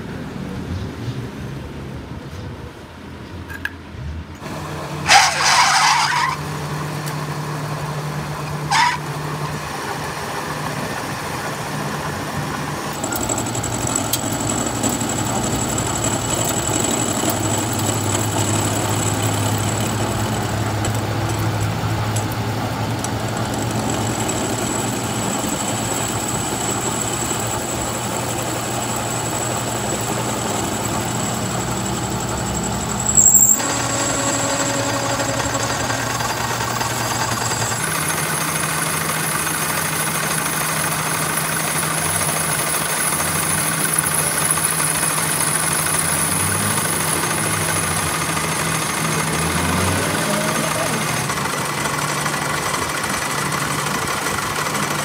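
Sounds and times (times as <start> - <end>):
lathe motor hum: 4.4 - 55.0
high whine of tool cutting steel: 4.9 - 55.0.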